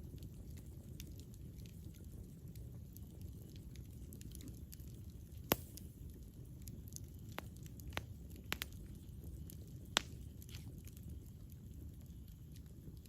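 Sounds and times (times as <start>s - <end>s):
campfire crackling: 0.0s - 13.0s
fire snapping: 0.0s - 13.0s.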